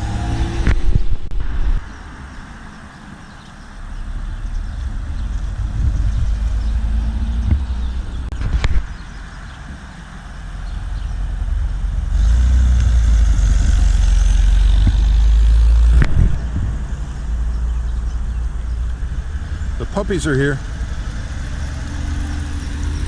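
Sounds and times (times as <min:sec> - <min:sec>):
car engine passing by: 0:00.0 - 0:02.6, 0:03.9 - 0:23.0.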